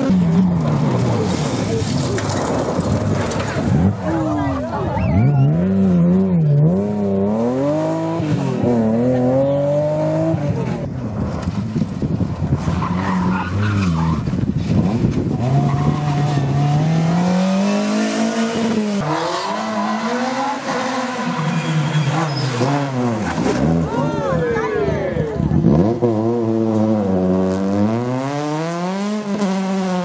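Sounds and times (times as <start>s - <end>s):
rally car engine revving: 0.0s - 24.2s, 25.4s - 30.0s
tyres skidding: 0.0s - 30.0s.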